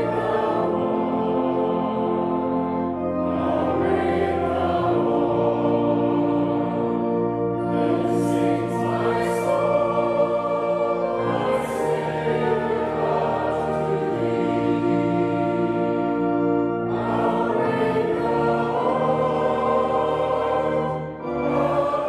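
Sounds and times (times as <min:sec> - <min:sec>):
choir singing slowly: 0:00.0 - 0:22.0.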